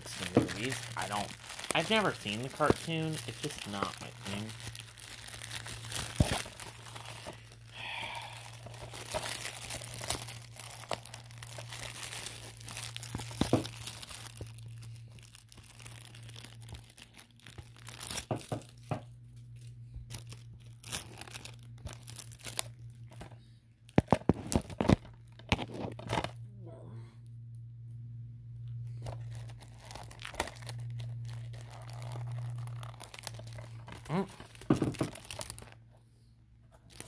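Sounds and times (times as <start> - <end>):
plastic wrapping crinkling and tearing: 0.0 - 26.4, 28.7 - 36.0, 36.8 - 37.0.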